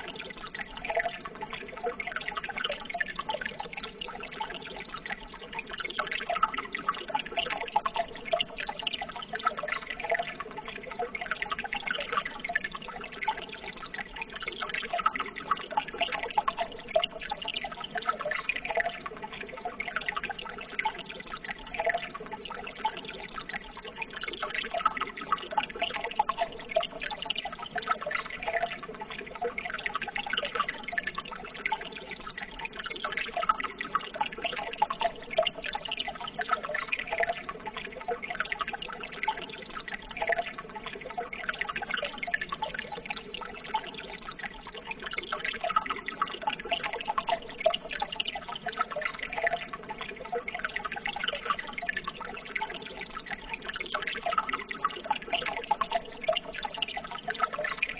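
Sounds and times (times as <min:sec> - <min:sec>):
water trickling and splashing: 0:00.0 - 0:57.9.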